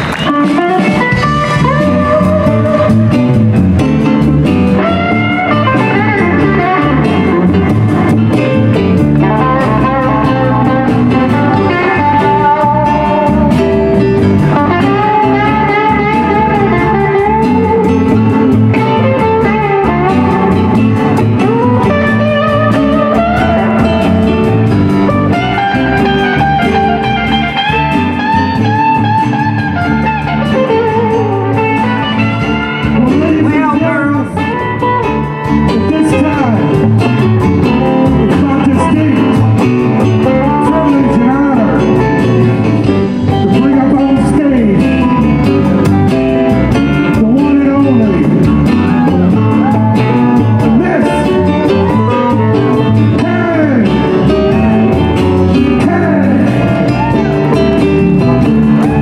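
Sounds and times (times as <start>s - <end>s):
bass guitar: 0.0s - 59.0s
drums: 0.0s - 59.0s
electric guitar lead: 0.0s - 59.0s.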